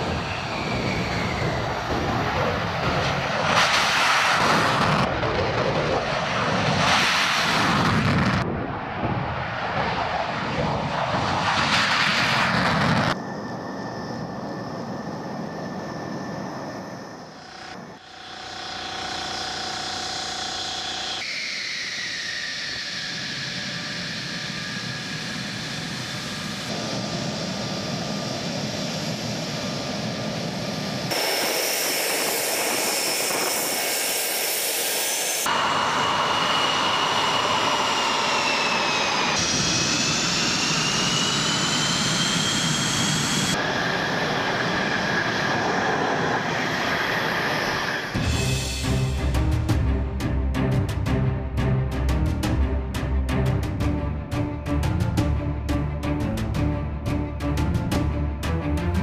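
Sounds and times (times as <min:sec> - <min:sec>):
jet engine afterburner roar: 0:00.0 - 0:49.0
taxiing jets turbine whine: 0:00.0 - 0:59.0.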